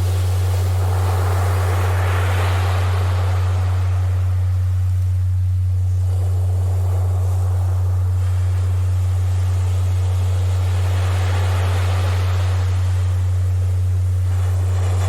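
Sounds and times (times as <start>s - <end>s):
ocean waves: 0.0s - 15.0s
steady low hum tone: 0.0s - 15.0s.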